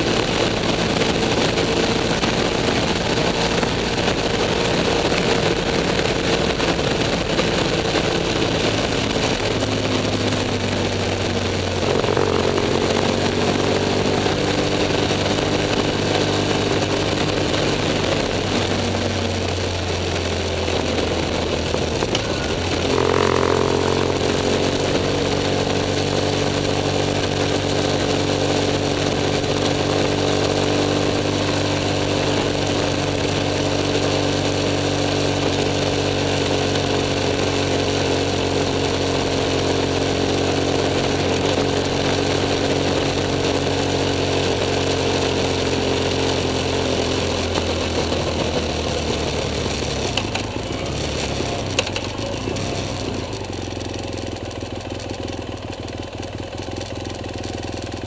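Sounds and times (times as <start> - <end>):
motorcycle engine running: 0.0 - 58.0
road and wind hiss: 0.0 - 58.0.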